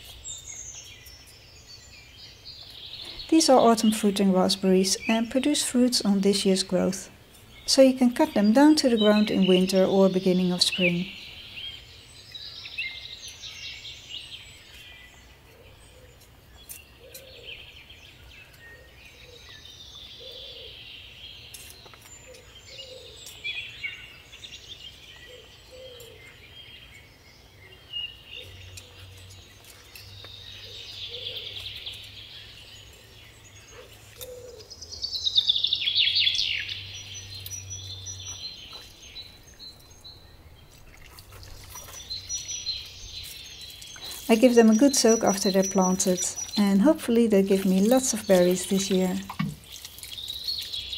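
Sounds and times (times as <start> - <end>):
birds singing and chirping: 0.0 - 50.9.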